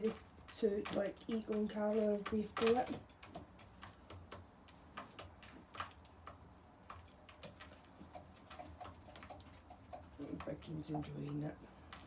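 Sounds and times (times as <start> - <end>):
pigeons pecking at feed: 0.0 - 12.0.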